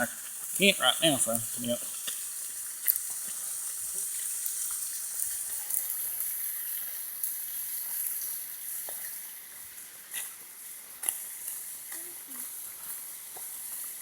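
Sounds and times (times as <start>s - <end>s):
small waterfall hissing: 0.0s - 14.0s.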